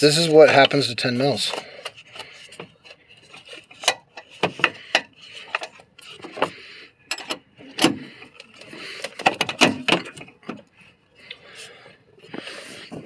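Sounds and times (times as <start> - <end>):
tool scraping metal and plastic: 0.0 - 11.0.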